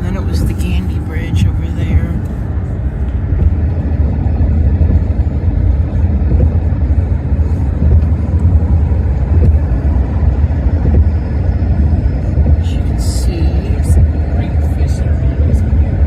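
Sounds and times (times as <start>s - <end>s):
car engine: 0.0s - 16.0s
tyre and road noise: 0.0s - 16.0s.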